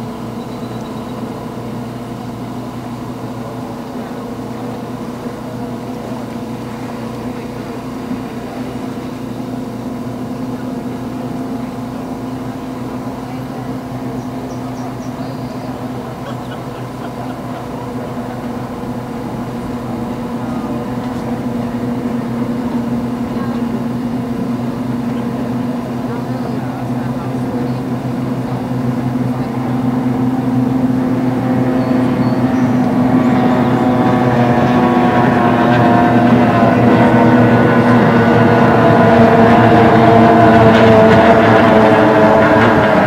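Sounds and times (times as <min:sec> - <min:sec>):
outboard engines running flat out: 0:00.0 - 0:43.0.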